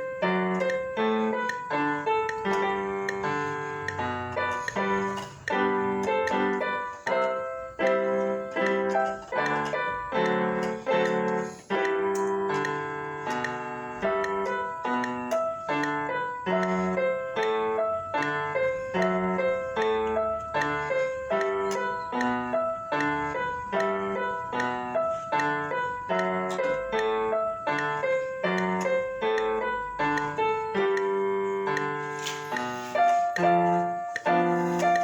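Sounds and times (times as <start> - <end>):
solo piano folk dance: 0.0 - 35.0.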